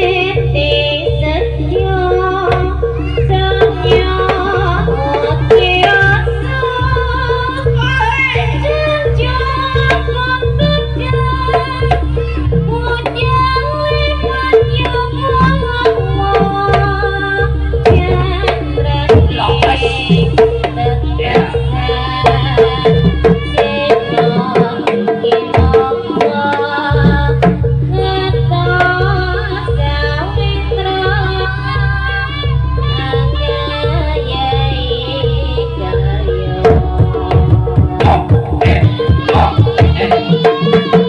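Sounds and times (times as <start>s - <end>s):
gamelan percussion ensemble: 0.0s - 41.0s.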